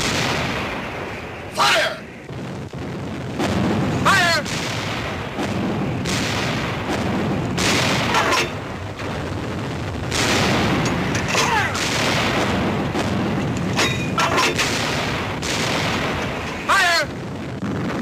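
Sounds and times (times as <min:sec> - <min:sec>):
heavy guns firing: 0:00.0 - 0:01.2, 0:02.3 - 0:18.0
continuous rumble: 0:00.0 - 0:18.0.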